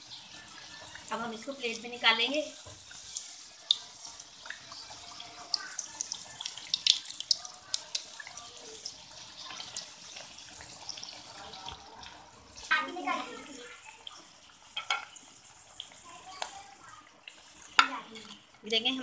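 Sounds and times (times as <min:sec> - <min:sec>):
oil sizzling and popping: 0:00.0 - 0:19.0.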